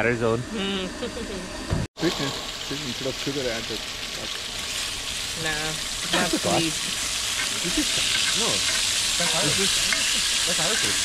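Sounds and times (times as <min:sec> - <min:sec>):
voices talking: 0:00.0 - 0:04.4, 0:05.4 - 0:11.0
food sizzling in a pan: 0:02.0 - 0:11.0.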